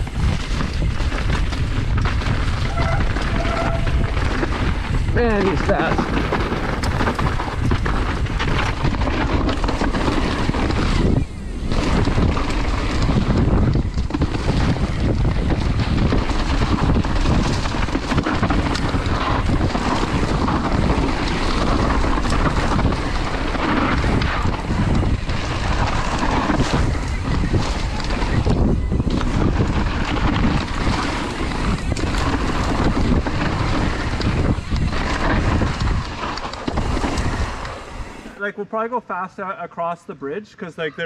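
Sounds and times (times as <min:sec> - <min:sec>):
bike rattling over bumps: 0:00.0 - 0:38.4
wind buffeting microphone: 0:00.0 - 0:38.4
bike tyres rolling on dirt: 0:00.0 - 0:39.5.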